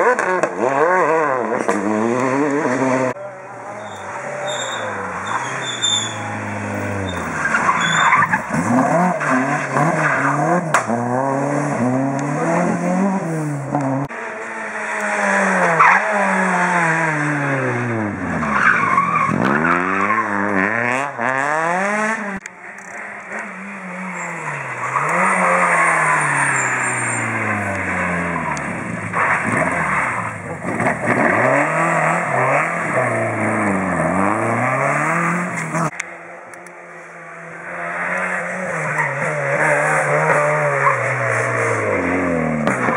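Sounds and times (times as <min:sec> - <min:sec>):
rally cars revving at full throttle: 0:00.0 - 0:42.9.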